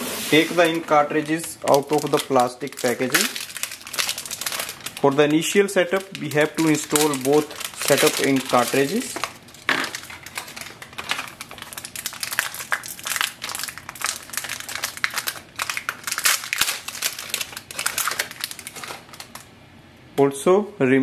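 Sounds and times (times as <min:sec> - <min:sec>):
plastic packaging crinkling: 0:00.1 - 0:19.5.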